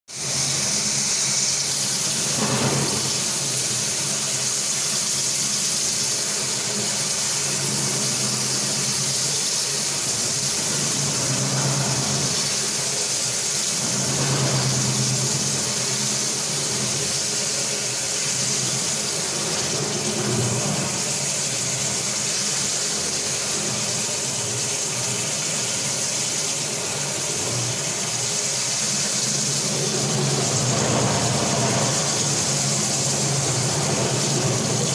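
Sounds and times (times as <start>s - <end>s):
floor polishing machine humming: 0.1s - 34.9s.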